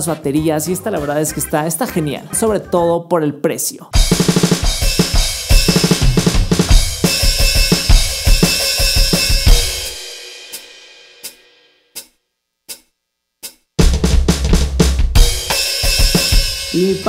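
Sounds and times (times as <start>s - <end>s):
electronic drum kit groove: 0.0s - 2.9s, 3.9s - 11.4s, 12.7s - 17.0s.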